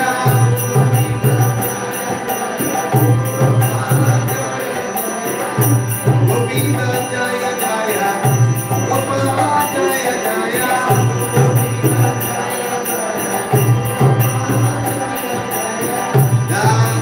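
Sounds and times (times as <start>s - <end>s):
hand cymbals jingling: 0.0s - 17.0s
harmonium: 0.0s - 17.0s
man singing: 0.0s - 17.0s.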